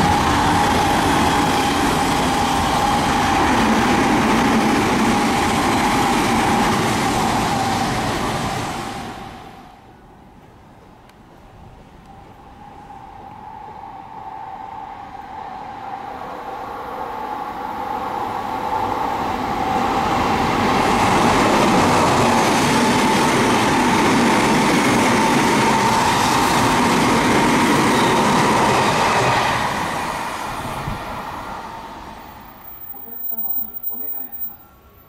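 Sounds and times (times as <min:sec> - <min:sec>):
electric train passing: 0:00.0 - 0:35.0.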